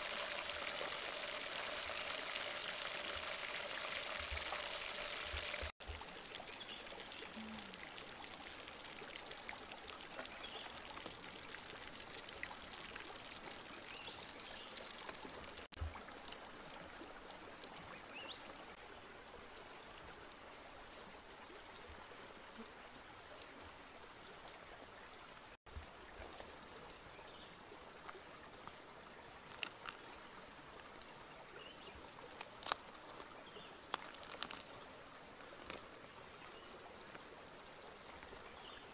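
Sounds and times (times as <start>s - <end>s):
water running over rocks: 0.0s - 38.9s.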